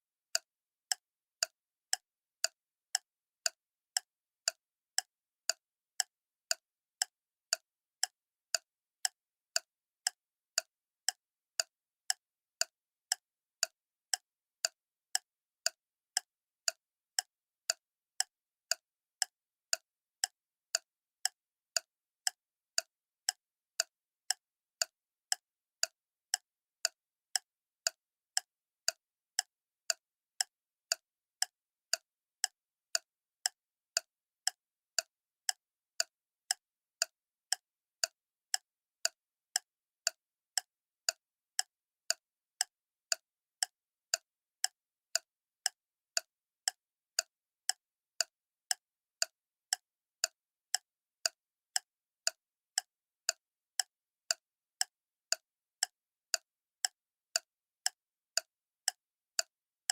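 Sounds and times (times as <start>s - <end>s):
clock ticking: 0.4s - 59.9s.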